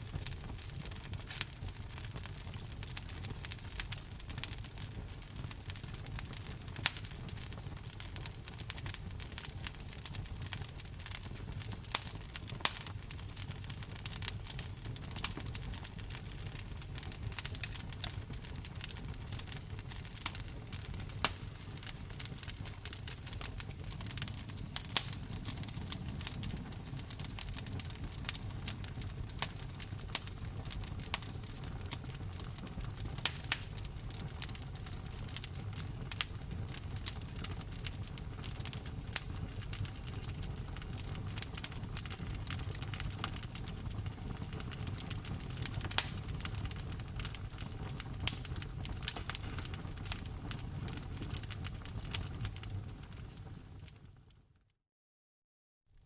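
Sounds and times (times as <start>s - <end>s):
burning wood crackling and popping: 0.0s - 54.2s
fire flames rumbling: 0.0s - 54.2s.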